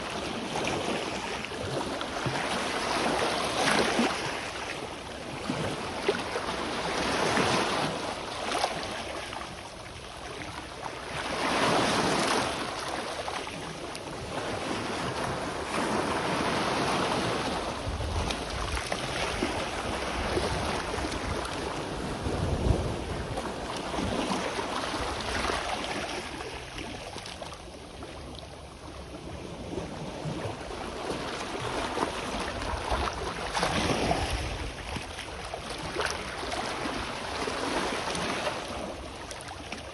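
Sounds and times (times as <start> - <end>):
sea waves washing onto shore: 0.0 - 39.9
wind rumble on microphone: 0.0 - 39.9.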